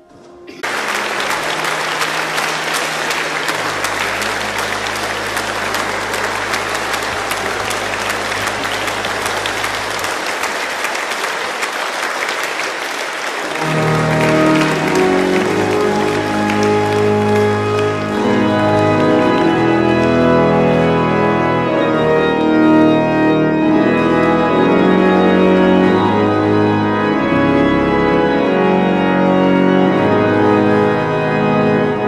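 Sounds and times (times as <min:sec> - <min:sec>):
organ playing low notes and chords: 0:00.0 - 0:11.8, 0:13.4 - 0:32.0
congregation applauding: 0:00.0 - 0:32.0.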